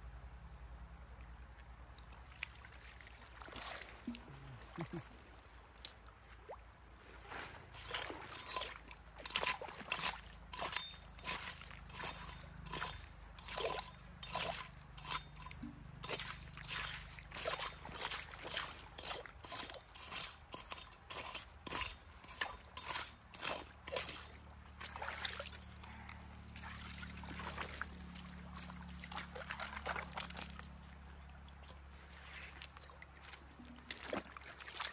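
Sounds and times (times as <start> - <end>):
stream water splashing: 1.5 - 34.9
digging through wet gravel: 2.0 - 34.9.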